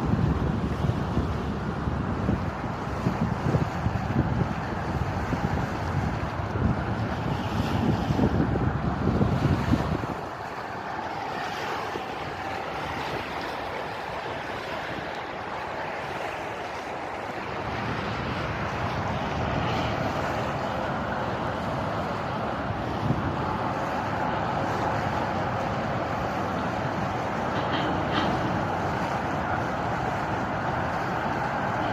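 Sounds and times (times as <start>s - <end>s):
wind and water rushing: 0.0s - 31.9s.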